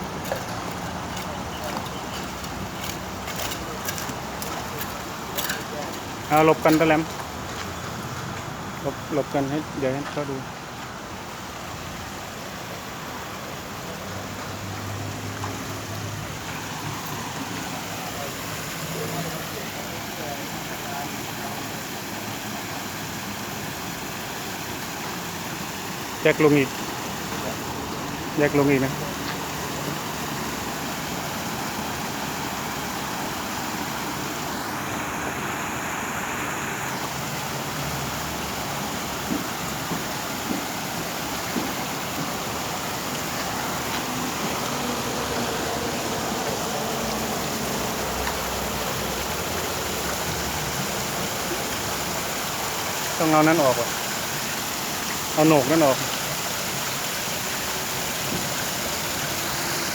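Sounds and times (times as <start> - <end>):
water splashing down waterfall: 0.0 - 59.9.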